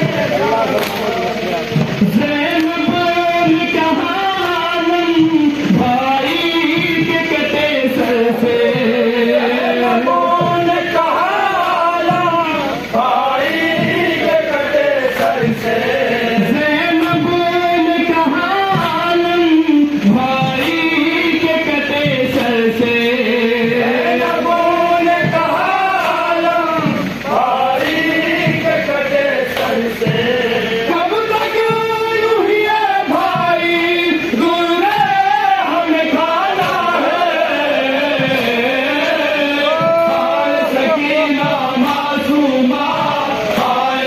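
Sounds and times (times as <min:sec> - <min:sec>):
men singing a mourning lament: 0:00.0 - 0:44.0.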